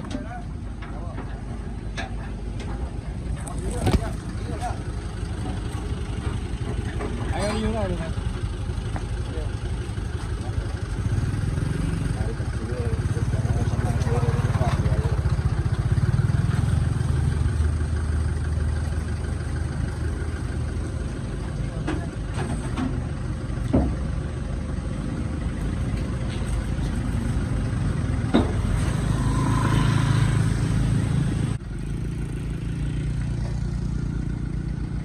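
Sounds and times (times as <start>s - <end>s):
engine droning: 0.0s - 35.0s.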